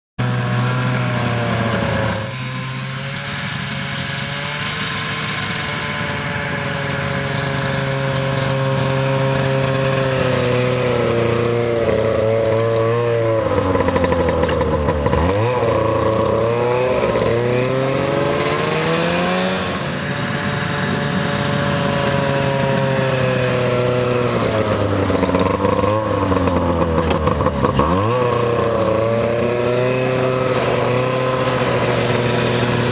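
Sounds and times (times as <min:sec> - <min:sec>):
snowmobile engine revving under load: 0:00.2 - 0:32.9.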